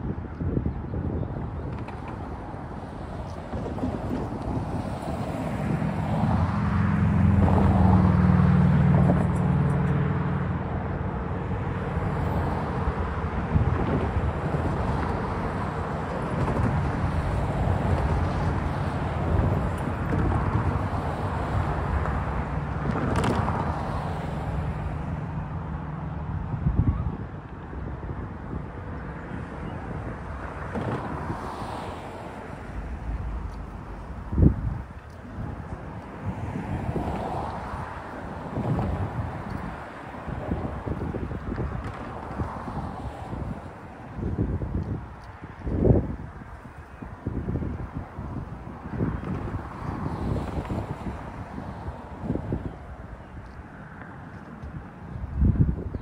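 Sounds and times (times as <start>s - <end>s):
cars driving past: 0.0s - 56.0s
wind rumbling on microphone: 0.0s - 56.0s.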